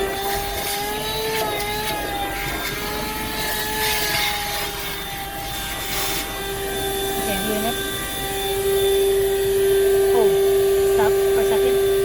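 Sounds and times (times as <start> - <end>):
handheld vacuum motor whine: 0.0 - 12.0.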